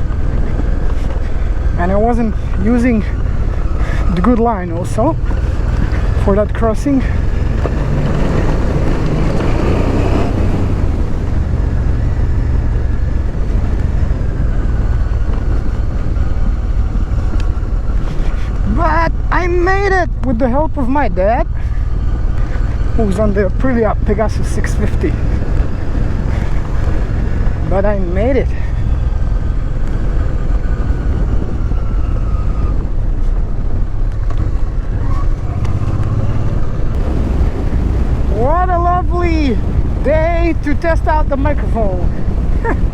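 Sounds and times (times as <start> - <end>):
motorcycle engine rumbling: 0.0 - 42.9.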